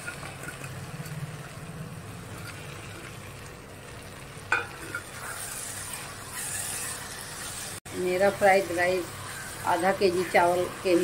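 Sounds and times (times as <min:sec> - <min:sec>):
vegetables sizzling: 0:00.0 - 0:11.0.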